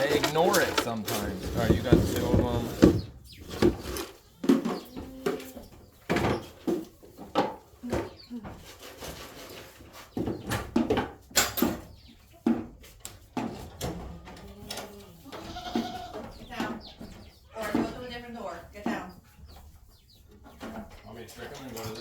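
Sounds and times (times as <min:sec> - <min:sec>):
knocks and clattering bumps: 0:00.0 - 0:19.1.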